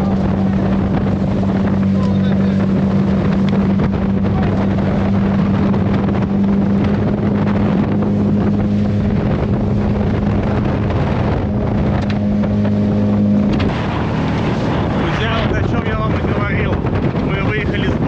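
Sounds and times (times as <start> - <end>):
motorboat engine running: 0.0 - 18.0
wind buffeting microphone: 0.0 - 18.0.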